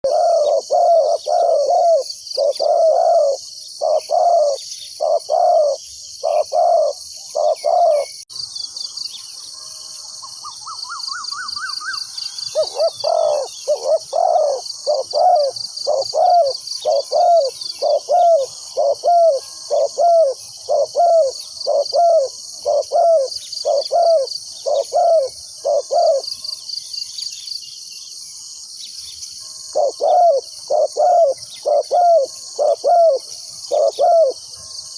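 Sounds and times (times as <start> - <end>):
dove cooing: 0.0 - 8.2, 10.7 - 26.3, 29.7 - 34.6
high insect drone: 0.0 - 34.9.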